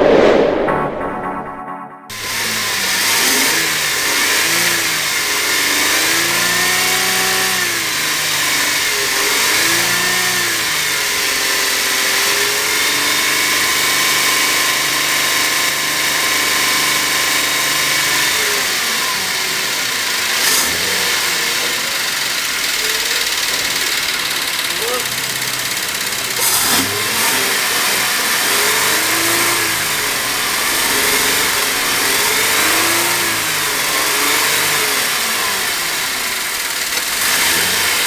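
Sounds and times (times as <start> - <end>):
car engine revving and idling: 2.2 - 38.0.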